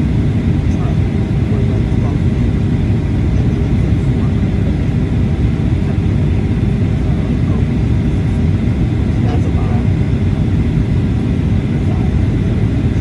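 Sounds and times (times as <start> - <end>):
airplane cabin engine noise: 0.0 - 13.0.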